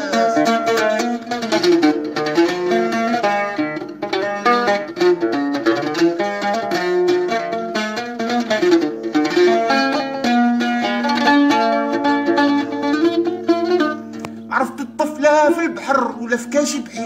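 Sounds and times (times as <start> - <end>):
mandole plucked with a plectrum: 0.0 - 17.0.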